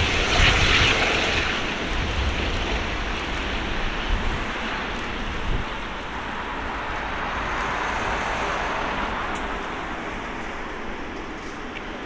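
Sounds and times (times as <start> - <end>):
jet airliner landing roar: 0.0 - 12.0.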